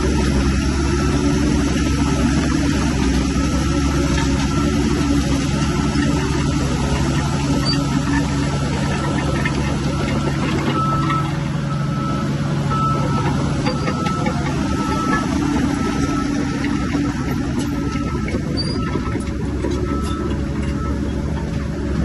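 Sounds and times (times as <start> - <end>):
diesel engine running under load: 0.0 - 22.0
reversing alarm beeping: 0.1 - 21.5.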